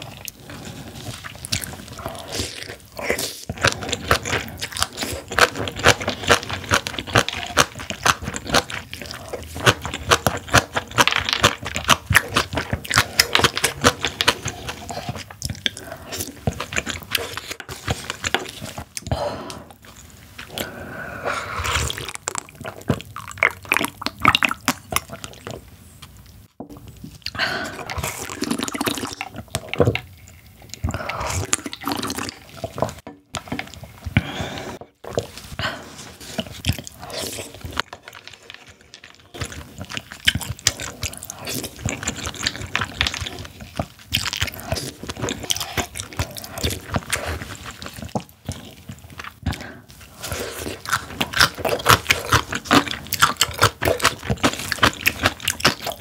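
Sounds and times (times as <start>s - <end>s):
wet chewing: 0.0s - 20.8s, 27.0s - 56.0s
slurping rice: 0.0s - 22.9s, 27.3s - 56.0s.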